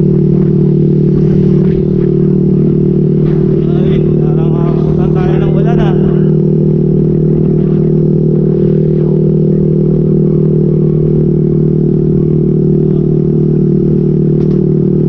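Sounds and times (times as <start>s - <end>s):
motorcycle exhaust drone: 0.0s - 15.0s.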